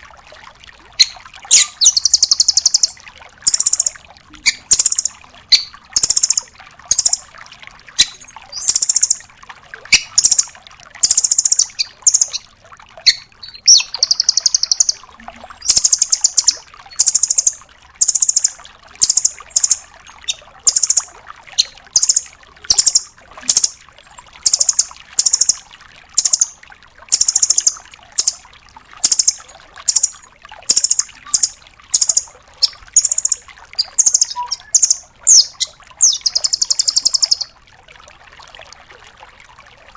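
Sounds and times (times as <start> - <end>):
bird calling in rattling trills: 1.0 - 7.3, 8.0 - 9.2, 9.9 - 23.8, 24.4 - 25.6, 26.2 - 28.4, 29.0 - 37.5.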